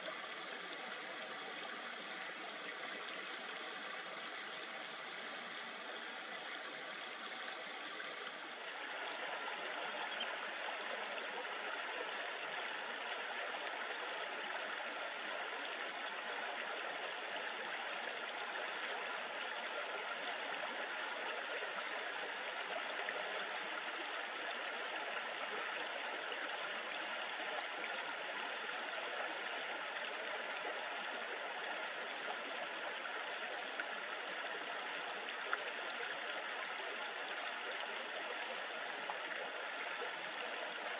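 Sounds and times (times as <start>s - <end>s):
shallow river babbling: 0.0s - 40.9s.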